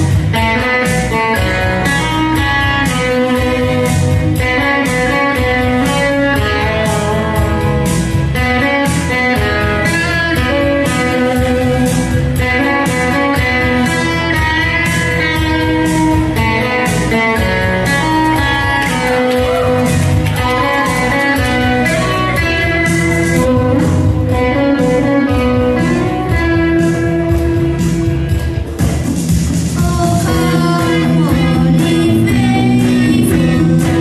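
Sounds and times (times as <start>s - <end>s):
electric guitar: 0.0s - 34.0s
steady beat: 0.0s - 34.0s.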